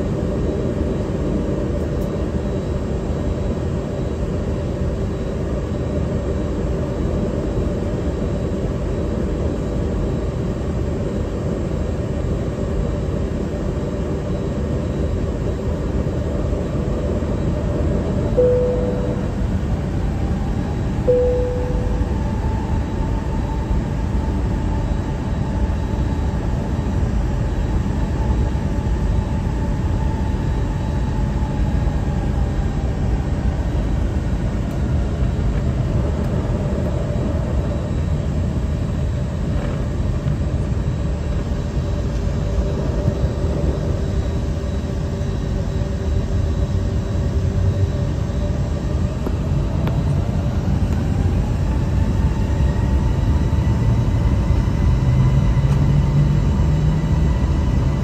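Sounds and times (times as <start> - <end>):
faint engine whines: 0.0 - 58.0
jet engines running at low power: 0.0 - 58.0.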